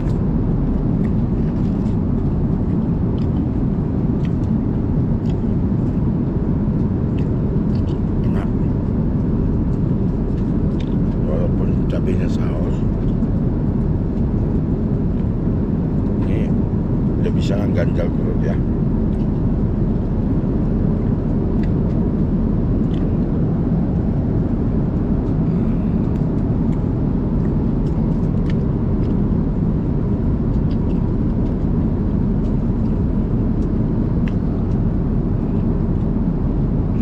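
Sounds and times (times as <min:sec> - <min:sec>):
airliner cabin engine rumble: 0:00.0 - 0:37.0.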